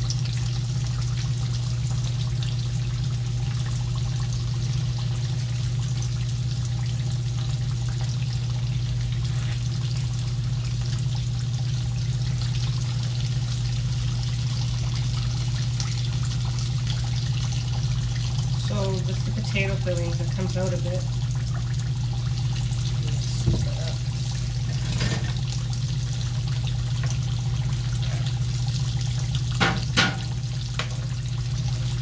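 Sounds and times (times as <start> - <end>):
tortillas sizzling in hot oil: 0.0 - 32.0.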